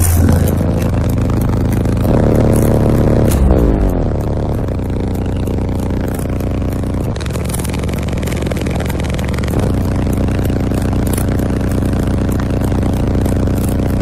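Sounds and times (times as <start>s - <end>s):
bass-heavy music from car subwoofers: 0.0s - 14.0s.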